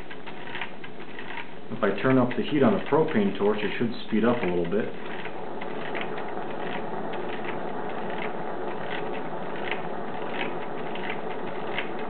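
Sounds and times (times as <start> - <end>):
engine clicking as it turns: 0.0 - 12.0.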